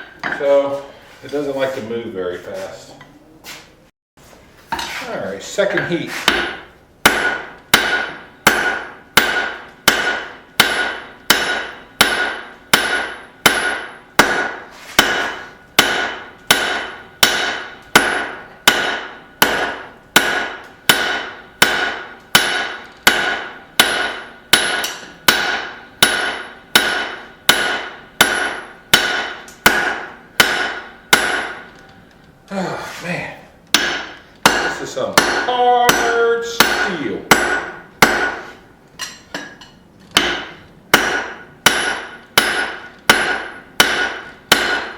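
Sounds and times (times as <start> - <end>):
hammer striking metal on anvil: 5.7 - 31.8, 33.7 - 44.9.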